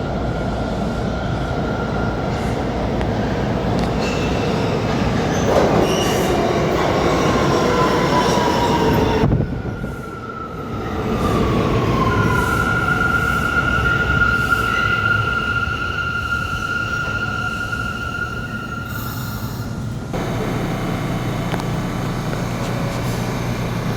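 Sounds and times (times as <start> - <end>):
subway train rumble: 0.0 - 23.9.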